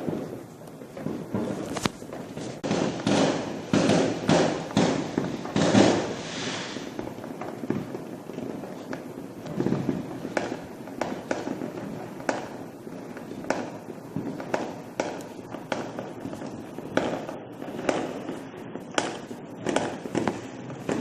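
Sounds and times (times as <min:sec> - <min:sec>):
background firework bursts: 0:00.0 - 0:21.0
distant fireworks bangs: 0:00.0 - 0:21.0.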